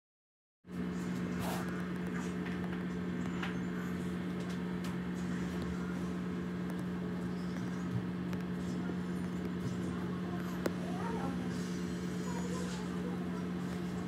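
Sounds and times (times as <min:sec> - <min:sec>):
steady low hum: 0:00.7 - 0:14.0.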